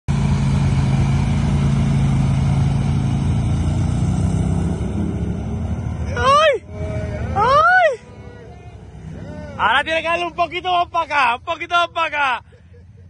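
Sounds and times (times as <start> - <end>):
quad bike engine running: 0.1 - 13.0.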